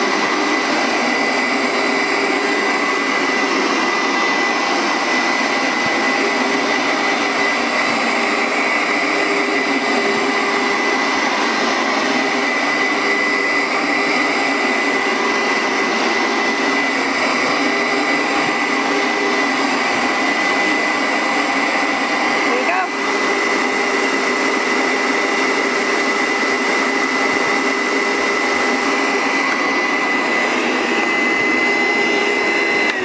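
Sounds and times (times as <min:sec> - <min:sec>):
carpet steam cleaner running: 0:00.0 - 0:33.0.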